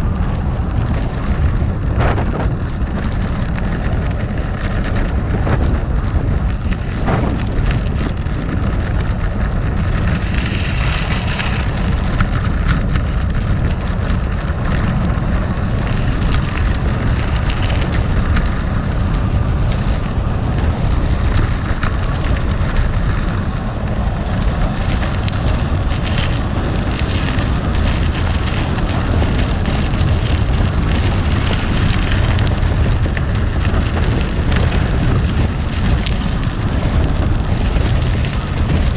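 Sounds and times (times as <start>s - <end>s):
bike rattling clicks: 0.0s - 38.9s
tyres crunching on gravel: 0.0s - 38.9s
wind rumble on microphone: 0.0s - 38.9s.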